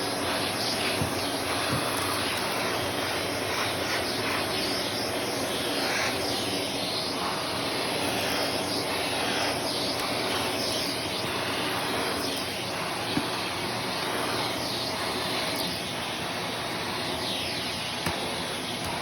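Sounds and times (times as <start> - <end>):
upright vacuum running: 0.0 - 19.0.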